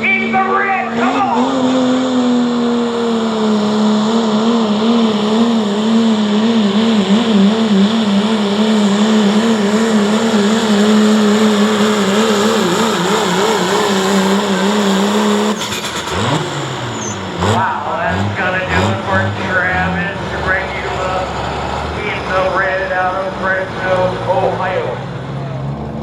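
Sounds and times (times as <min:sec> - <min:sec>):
truck engine at high revs: 0:00.0 - 0:26.0.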